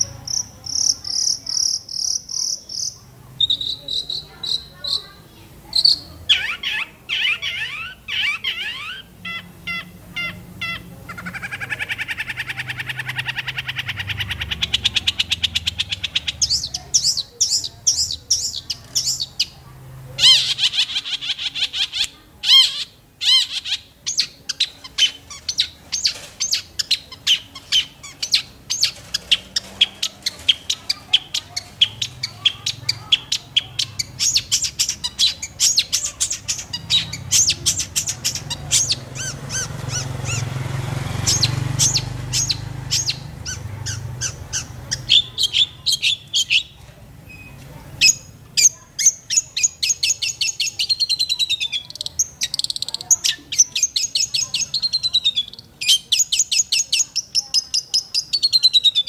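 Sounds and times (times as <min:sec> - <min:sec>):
bird chirping rapidly: 0:00.0 - 0:59.0.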